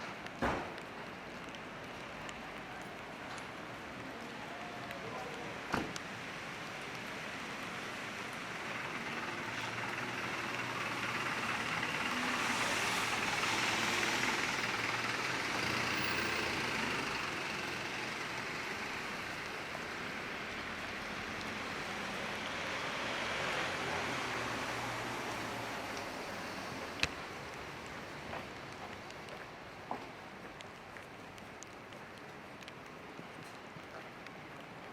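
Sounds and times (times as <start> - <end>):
steady rain: 0.0 - 34.9
tyres hissing on wet road: 0.0 - 34.9.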